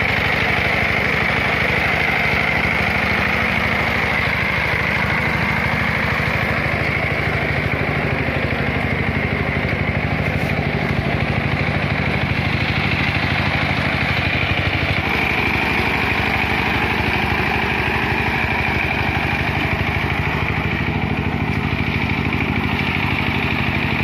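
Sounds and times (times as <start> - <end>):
diesel tiller engine running: 0.0 - 24.0.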